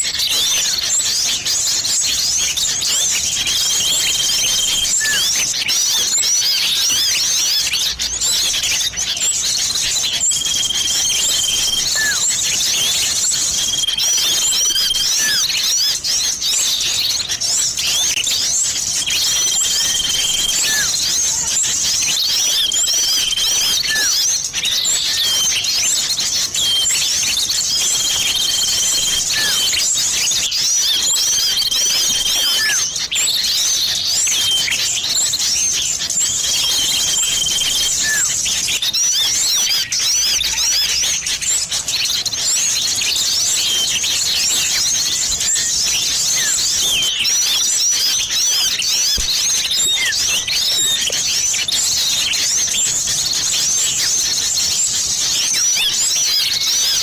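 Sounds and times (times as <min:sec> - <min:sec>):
long level bird whistles: 0:00.0 - 0:57.0
small songbirds chirping: 0:00.0 - 0:57.0.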